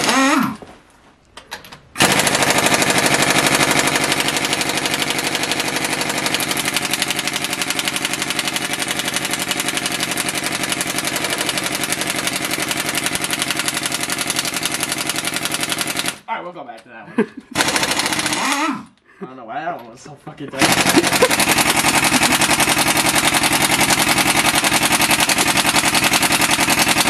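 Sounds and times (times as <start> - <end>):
pneumatic impact wrench rattling: 0.0 - 0.6, 1.4 - 16.2, 17.6 - 19.0, 20.6 - 27.0.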